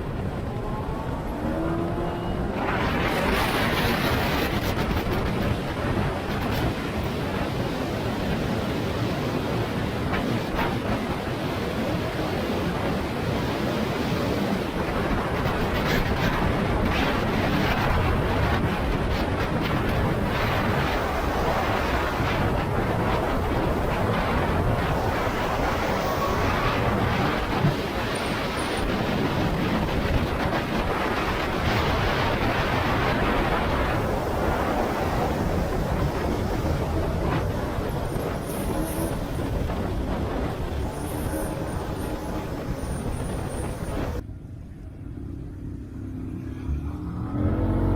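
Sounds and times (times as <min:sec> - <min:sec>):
wind rushing on microphone: 0:00.0 - 0:44.7
road noise: 0:00.0 - 0:47.9.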